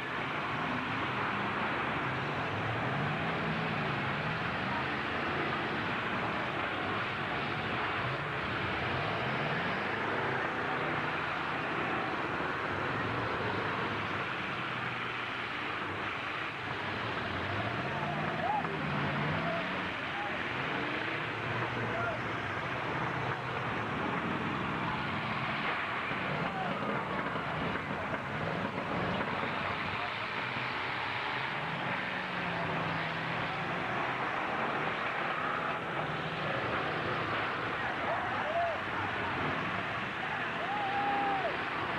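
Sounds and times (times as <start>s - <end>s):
crowd noise: 0.0s - 41.9s
truck engines running together: 0.0s - 41.9s.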